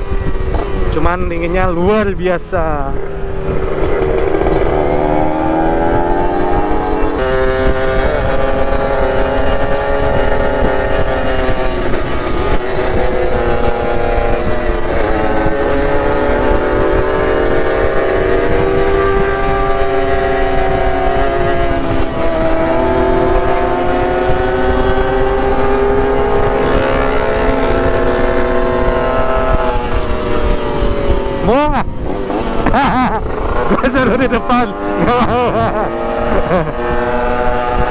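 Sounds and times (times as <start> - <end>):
two-stroke motorcycle engine: 0.0 - 37.9
wind and road noise: 0.0 - 37.9.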